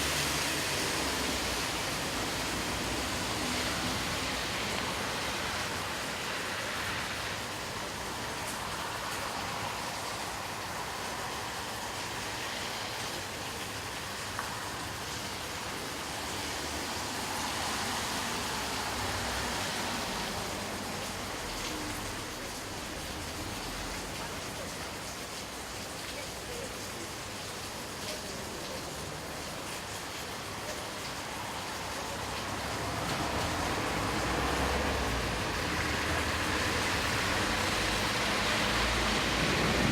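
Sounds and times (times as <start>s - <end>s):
cars passing on wet road: 0.0s - 39.9s
steady rain falling: 0.0s - 39.9s.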